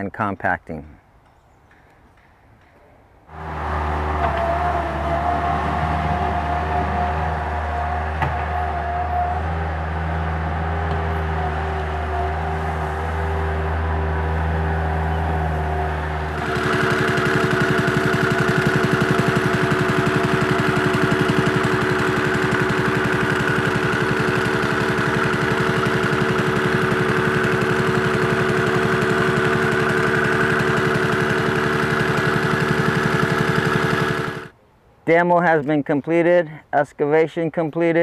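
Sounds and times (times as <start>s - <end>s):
loader engine running: 3.3s - 34.6s
rammer pounding gravel: 3.3s - 34.6s.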